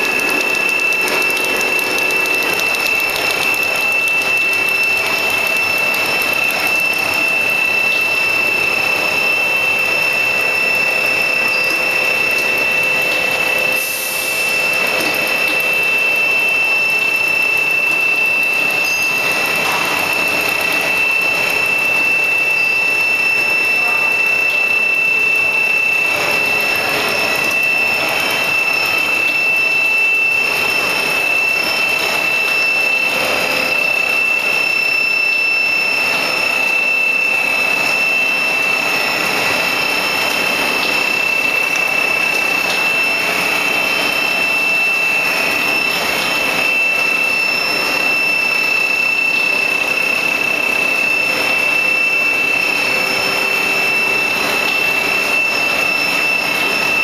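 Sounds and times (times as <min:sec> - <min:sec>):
constant high whine: 0:00.0 - 0:57.0
machine running: 0:00.0 - 0:57.0.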